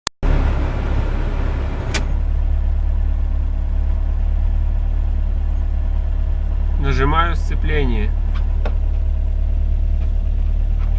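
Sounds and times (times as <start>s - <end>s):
car engine running: 0.2s - 10.9s.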